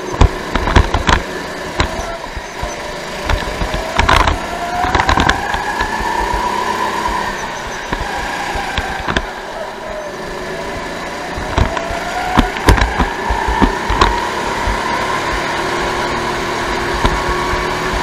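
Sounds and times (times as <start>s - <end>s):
go-kart engine revving: 0.0s - 18.0s
sharp knocks: 0.1s - 1.2s, 1.8s - 9.3s, 11.3s - 18.0s.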